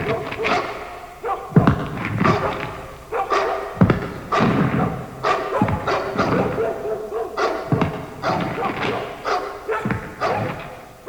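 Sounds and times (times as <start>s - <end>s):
heavy thumps: 0.0s - 11.0s.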